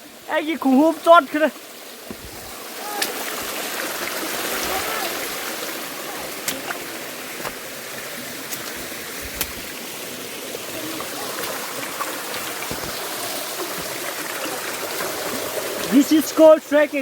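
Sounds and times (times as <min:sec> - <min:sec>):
flowing stream rushing: 0:00.0 - 0:17.0.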